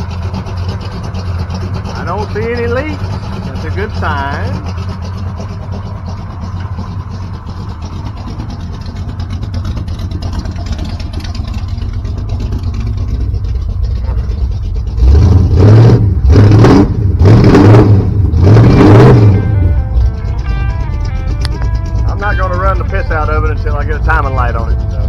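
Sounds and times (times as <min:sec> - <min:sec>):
engine idling: 0:00.0 - 0:25.0
engine revving: 0:00.0 - 0:25.0.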